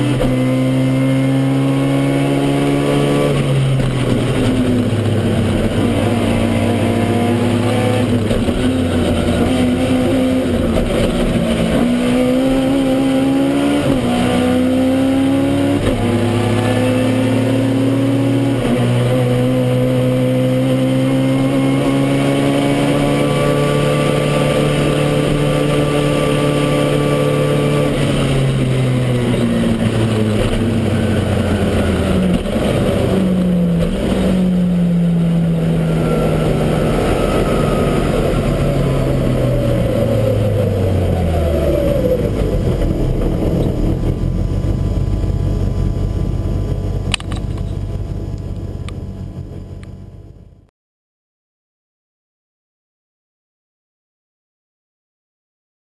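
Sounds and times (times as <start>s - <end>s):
car engine at full throttle: 0.0s - 50.7s.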